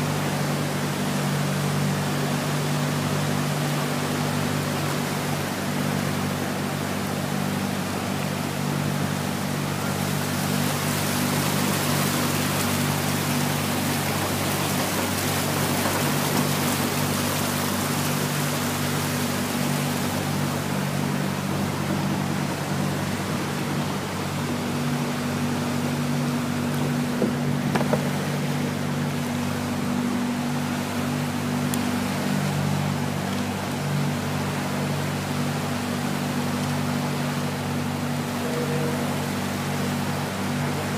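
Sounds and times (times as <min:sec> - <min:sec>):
motorboat engine running: 0:00.0 - 0:40.9
water rushing and splashing: 0:00.0 - 0:40.9.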